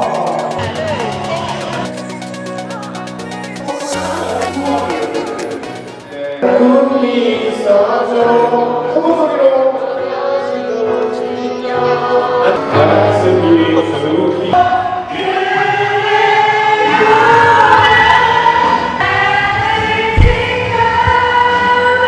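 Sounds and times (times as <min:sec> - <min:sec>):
crowd singing in chorus: 0:00.0 - 0:22.0.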